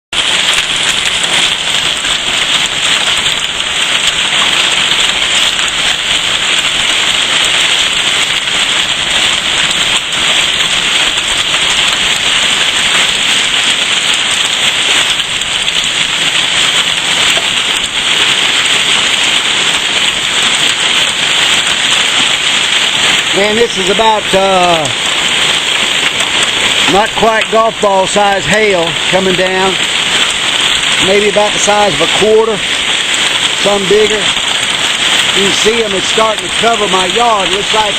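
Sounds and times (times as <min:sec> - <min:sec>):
hailstones clattering: 0:00.1 - 0:37.9
heavy rain pelting down: 0:00.1 - 0:37.9.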